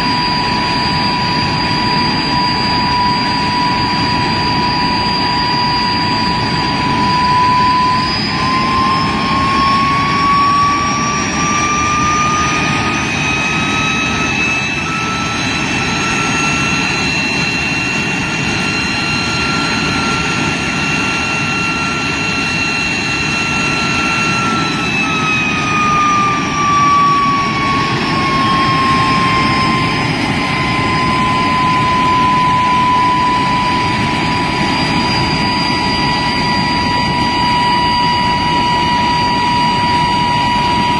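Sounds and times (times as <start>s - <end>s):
jet engine whine and roar: 0.0s - 40.9s.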